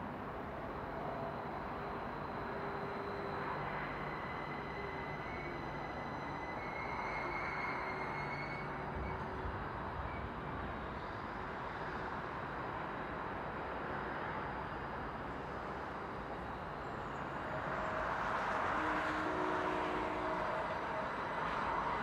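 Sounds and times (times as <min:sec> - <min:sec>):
faint steady tones: 0:00.0 - 0:22.0.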